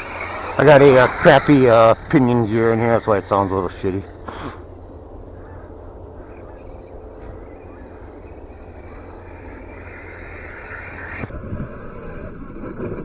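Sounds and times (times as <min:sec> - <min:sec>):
electric drivetrain whirring: 0:00.0 - 0:13.0.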